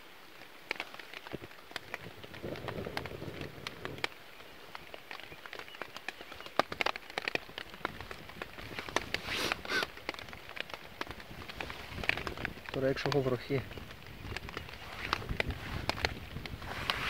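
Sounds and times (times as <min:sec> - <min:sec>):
kindling fire crackling: 0:00.0 - 0:17.0
rain tapping on a tarp: 0:00.0 - 0:17.0
loud rustle: 0:00.4 - 0:17.0.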